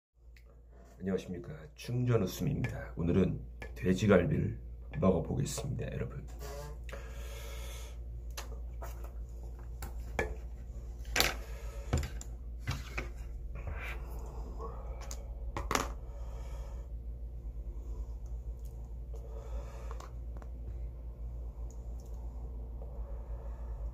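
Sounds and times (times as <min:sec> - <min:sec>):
steady low hum: 0:00.2 - 0:23.9.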